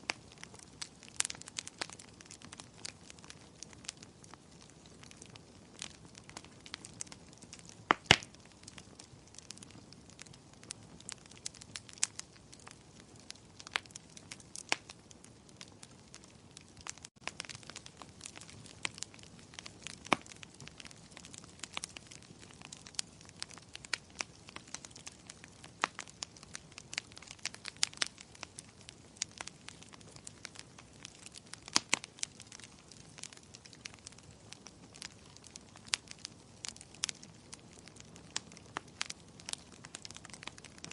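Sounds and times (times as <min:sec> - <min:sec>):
fireplace fire crackling: 0:00.0 - 0:40.9.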